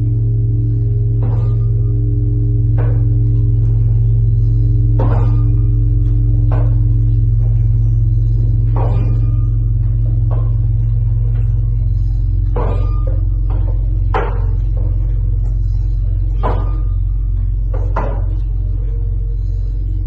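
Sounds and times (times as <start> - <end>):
deep sustained hum: 0.0 - 20.0.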